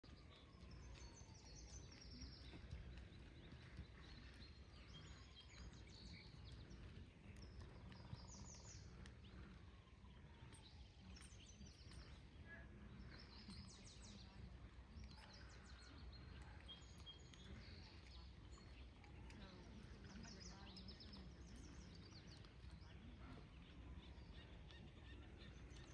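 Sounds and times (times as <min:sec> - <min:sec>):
small birds chirping trills: 0:00.0 - 0:25.9.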